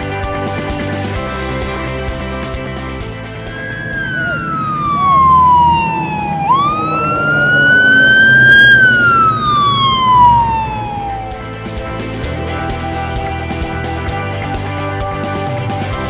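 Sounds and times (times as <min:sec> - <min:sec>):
truck engine rumble: 0:00.0 - 0:16.0
fire truck siren wailing: 0:00.6 - 0:14.1.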